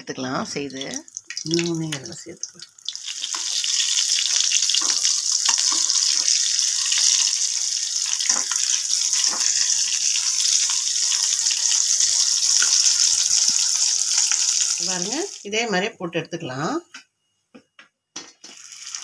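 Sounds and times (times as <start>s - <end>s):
food sizzling in hot oil: 0.5s - 15.5s, 18.4s - 19.0s.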